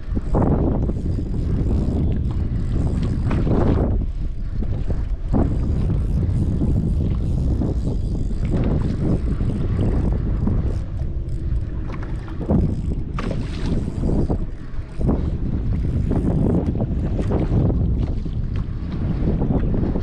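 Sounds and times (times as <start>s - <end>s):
water splashing against kayak: 0.0s - 20.0s
wind buffeting microphone: 0.0s - 20.0s.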